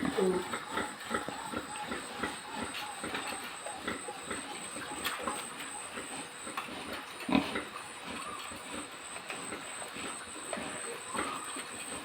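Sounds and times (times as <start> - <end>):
pigs grunting and oinking: 0.0 - 12.0.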